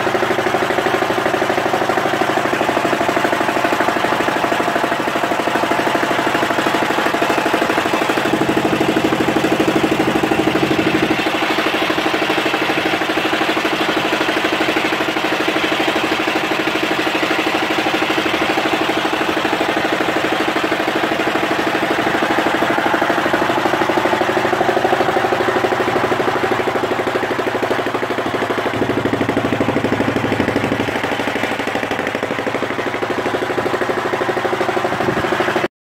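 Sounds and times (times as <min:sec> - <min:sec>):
boat engine running: 0:00.0 - 0:35.7.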